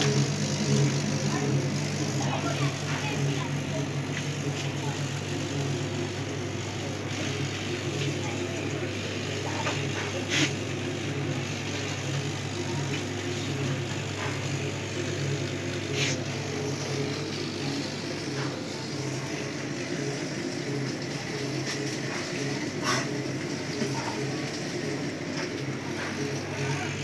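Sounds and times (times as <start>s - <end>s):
laser cutter machine hum: 0.0s - 27.0s.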